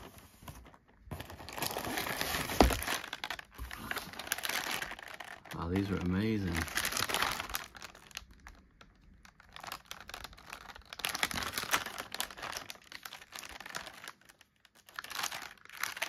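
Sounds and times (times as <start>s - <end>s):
plastic wrapper crackling: 0.0s - 16.0s.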